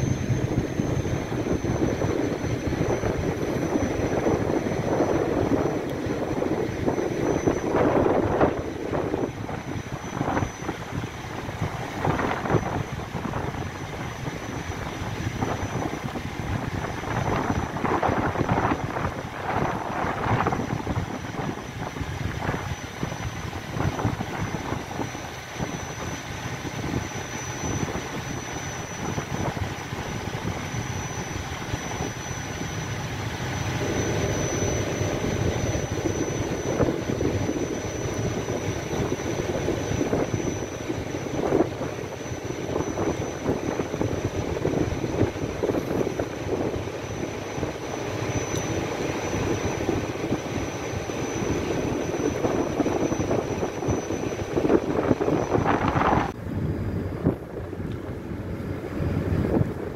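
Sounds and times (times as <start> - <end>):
low rumble of ship engines: 0.0 - 59.9
wind buffeting microphone: 0.0 - 59.9.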